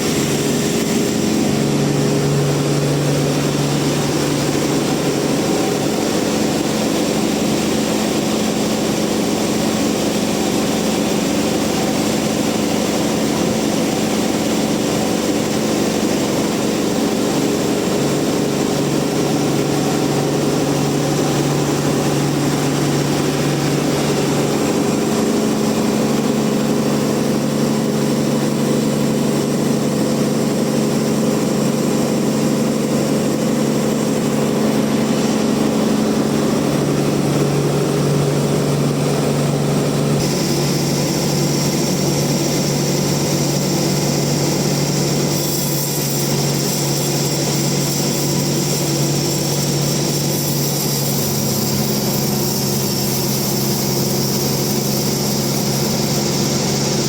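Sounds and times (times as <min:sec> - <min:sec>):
sawmill machine drone: 0:00.0 - 0:57.0.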